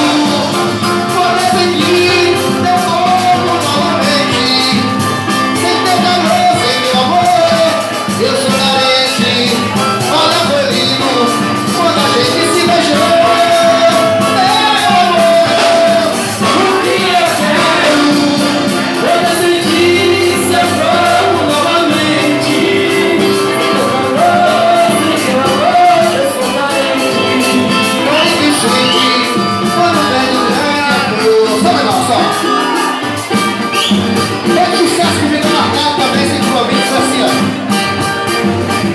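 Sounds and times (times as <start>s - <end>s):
live band playing latin music: 0.0s - 38.9s
steady percussion: 0.0s - 38.9s.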